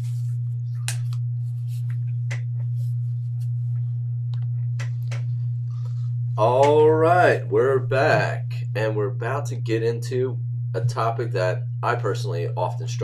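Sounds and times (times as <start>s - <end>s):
loud low pure tone hum: 0.0s - 13.0s.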